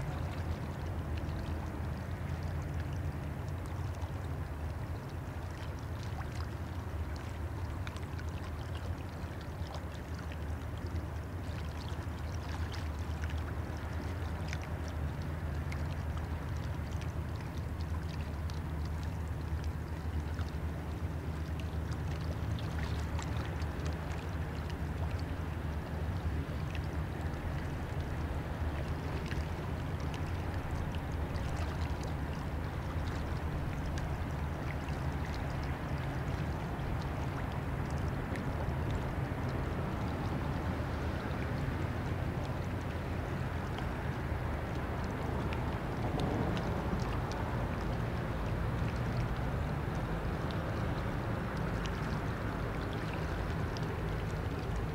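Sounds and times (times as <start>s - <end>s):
river water washing: 0.0s - 54.9s.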